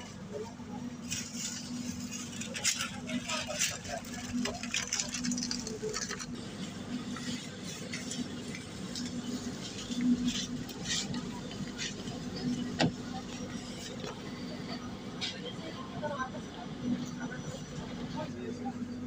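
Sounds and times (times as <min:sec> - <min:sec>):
train carriage hum: 0:00.0 - 0:19.0.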